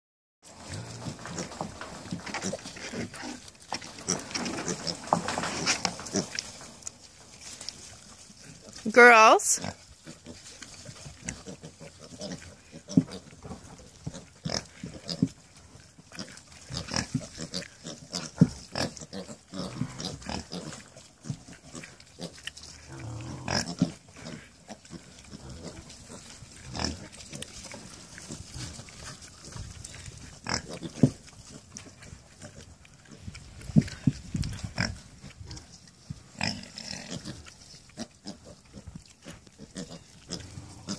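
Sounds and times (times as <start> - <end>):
pigs grunting: 0.5 - 7.0, 9.6 - 40.9.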